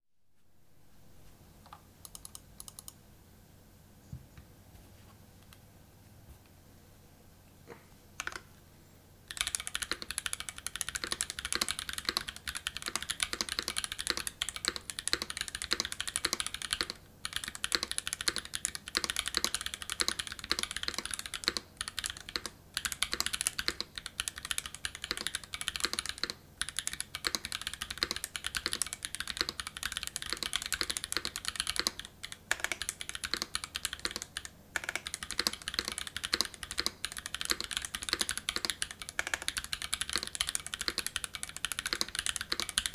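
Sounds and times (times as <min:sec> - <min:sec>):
mechanical keyboard typing: 0:01.7 - 0:03.0, 0:08.2 - 0:08.5, 0:09.3 - 0:42.9.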